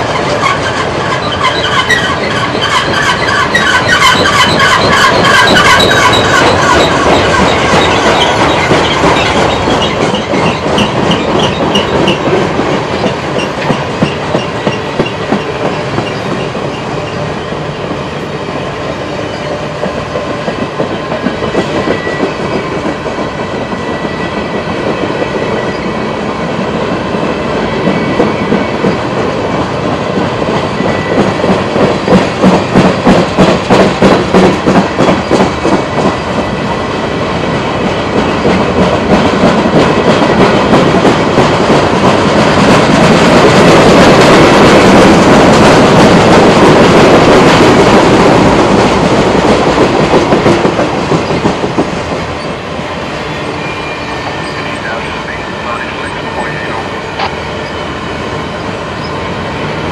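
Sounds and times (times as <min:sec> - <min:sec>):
train rolling noise: 0:00.0 - 0:59.9
train wheels clacking on rail joints: 0:00.0 - 0:59.9.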